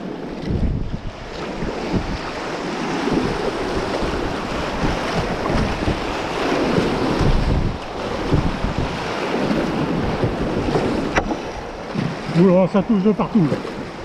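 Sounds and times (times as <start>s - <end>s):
wind buffeting microphone: 0.0s - 14.0s
whitewater rapids rushing: 1.4s - 14.0s.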